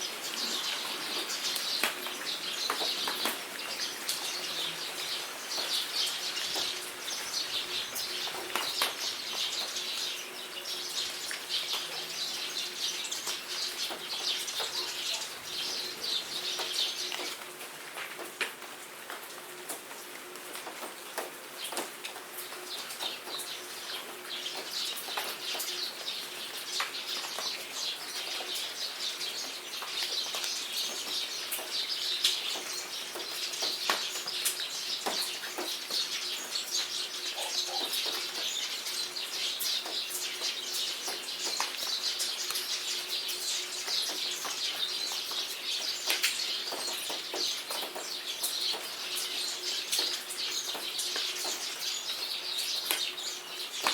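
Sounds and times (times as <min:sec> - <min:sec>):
birds chirping and singing: 0:00.0 - 0:17.3, 0:22.8 - 0:53.9
rain falling: 0:00.0 - 0:53.9.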